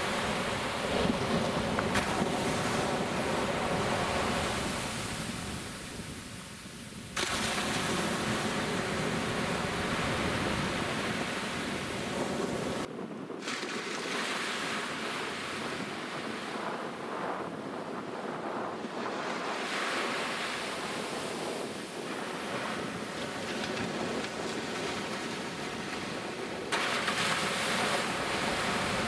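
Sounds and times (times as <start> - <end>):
surf washing onto beach: 0.0 - 29.0
wind buffeting microphone: 0.0 - 29.0.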